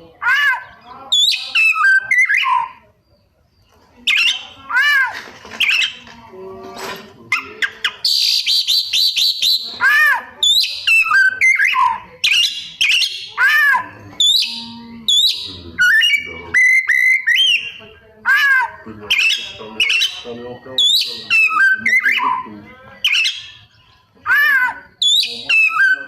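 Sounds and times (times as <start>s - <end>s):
songbird singing whistles and chirps: 0.3s - 4.6s, 5.6s - 6.1s, 7.3s - 13.4s, 14.2s - 18.0s, 18.6s - 26.0s.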